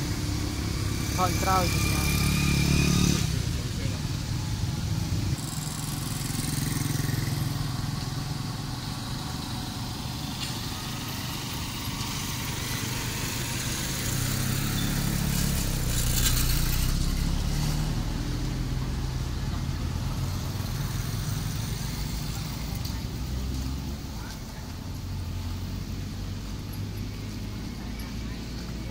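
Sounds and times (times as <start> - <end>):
vehicle engine passing: 0.0 - 28.9.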